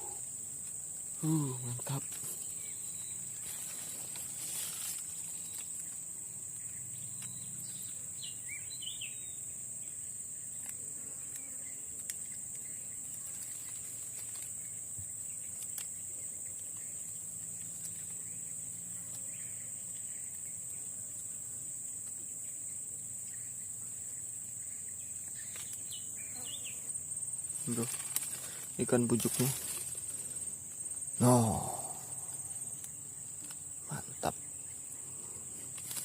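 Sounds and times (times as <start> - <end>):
insect chorus: 0.0 - 36.0
short insect chirps: 0.0 - 36.0.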